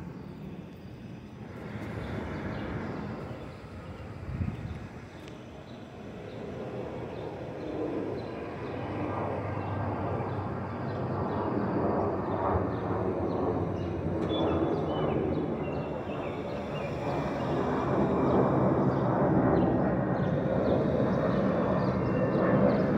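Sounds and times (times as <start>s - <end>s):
jet airliner passing overhead: 0.0s - 22.9s.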